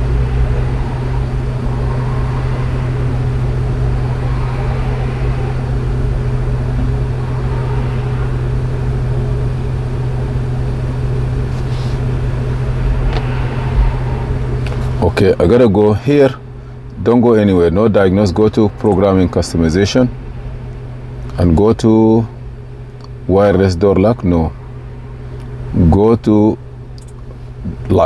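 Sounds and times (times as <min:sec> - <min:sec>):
background rumble: 0:00.0 - 0:27.9
low mechanical hum: 0:00.0 - 0:28.0.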